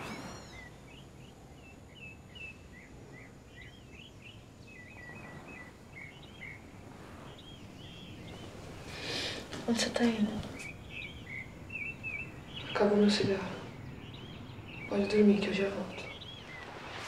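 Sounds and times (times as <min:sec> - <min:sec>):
low background hush: 0:00.0 - 0:17.0.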